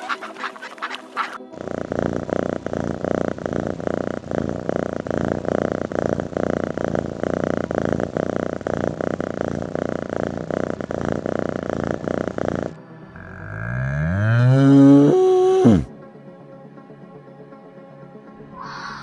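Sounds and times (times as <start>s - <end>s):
animal purring rattle: 0.0s - 15.9s.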